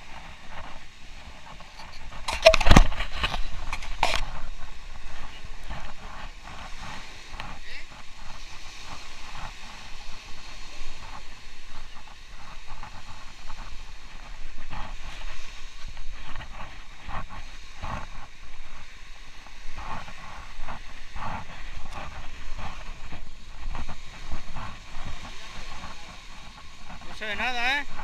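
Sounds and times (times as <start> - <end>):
waves washing onto sand: 0.0 - 28.0
wind rumbling on microphone: 0.0 - 28.0.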